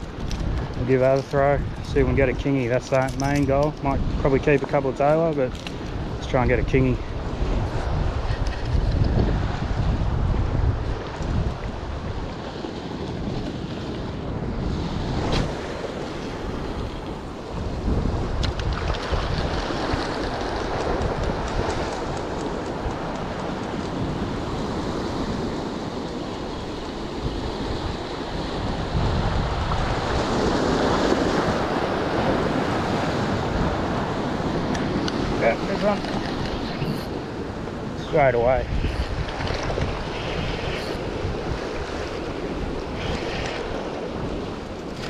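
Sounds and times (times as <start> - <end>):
ocean waves washing against rocks: 0.0 - 45.0
wind buffeting microphone: 0.0 - 45.0.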